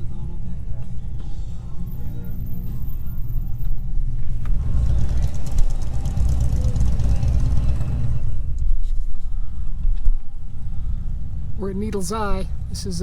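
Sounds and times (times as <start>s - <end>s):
road noise hiss: 0.0s - 13.0s
truck engine rumble: 0.0s - 13.0s.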